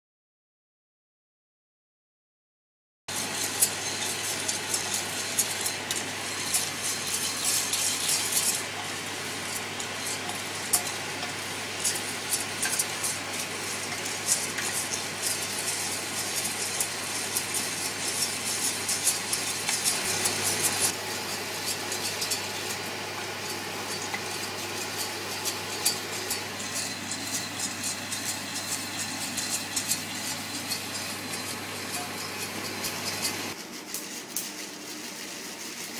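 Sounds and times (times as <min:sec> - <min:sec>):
steady low hum: 0:03.1 - 0:35.3
coffee beans rattling in a pan: 0:03.1 - 0:35.9.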